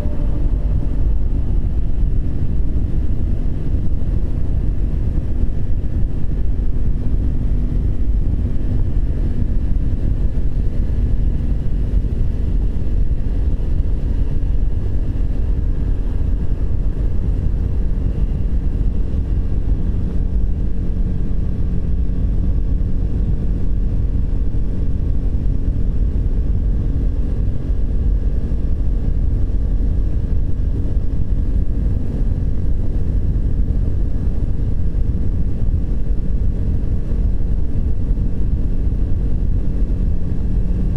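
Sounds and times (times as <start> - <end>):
motorcycle engine running: 0.0 - 40.9
wind and road rumble: 0.0 - 40.9.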